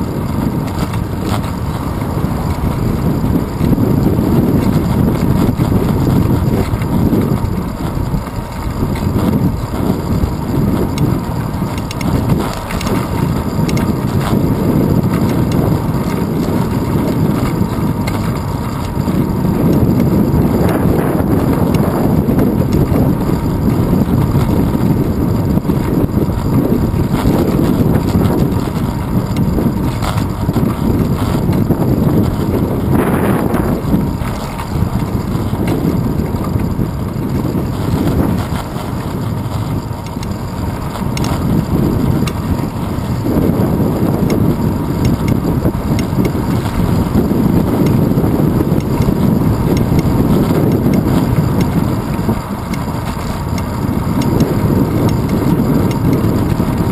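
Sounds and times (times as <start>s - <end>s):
road noise: 0.0s - 56.9s
street traffic: 0.0s - 56.9s
wind buffeting microphone: 0.0s - 56.9s.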